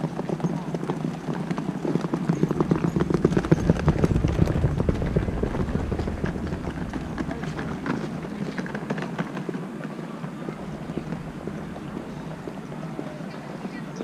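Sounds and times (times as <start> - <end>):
suitcase wheels rattling on cobblestones: 0.0 - 14.0.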